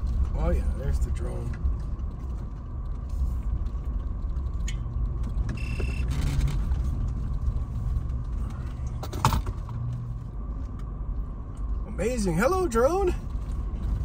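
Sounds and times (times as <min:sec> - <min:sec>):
vehicle rumbling on dirt trail: 0:00.0 - 0:14.0.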